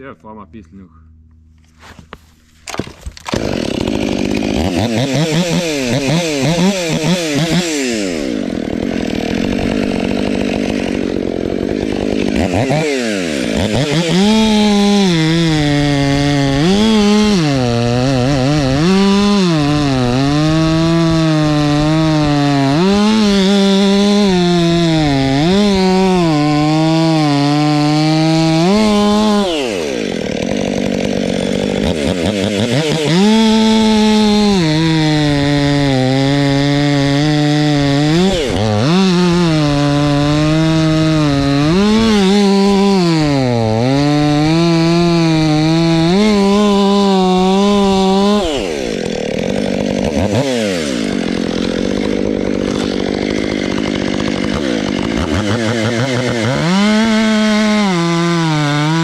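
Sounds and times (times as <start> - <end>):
chainsaw cutting wood: 1.5 - 59.0.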